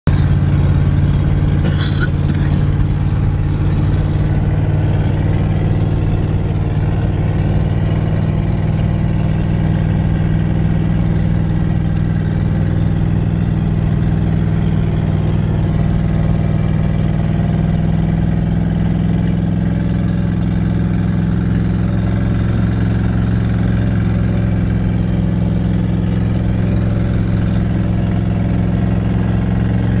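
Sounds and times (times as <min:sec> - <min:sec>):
vehicle engine running steadily: 0:00.0 - 0:30.0.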